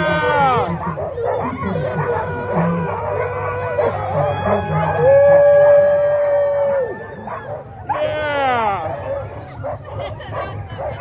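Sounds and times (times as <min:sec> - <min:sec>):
dogs howling: 0:00.0 - 0:11.0.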